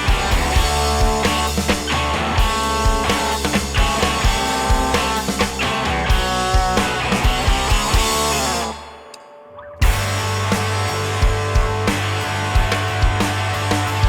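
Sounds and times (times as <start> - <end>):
drums keeping a steady beat: 0.0 - 8.8, 9.8 - 14.0
electric guitar: 0.0 - 14.0.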